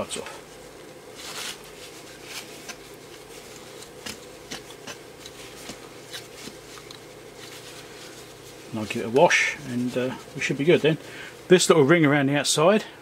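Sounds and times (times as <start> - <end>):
steady low hum: 0.0 - 13.0
tissue scrubbing circuit board: 0.6 - 12.0.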